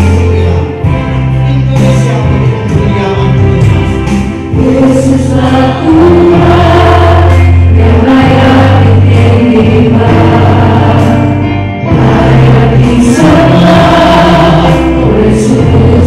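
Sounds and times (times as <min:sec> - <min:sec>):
sustained bass notes: 0:00.0 - 0:16.0
voices singing worship song: 0:00.0 - 0:16.0.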